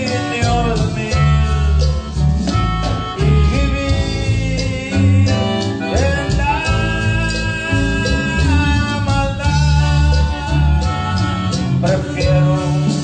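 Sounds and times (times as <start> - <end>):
christian song with band: 0.0 - 13.0.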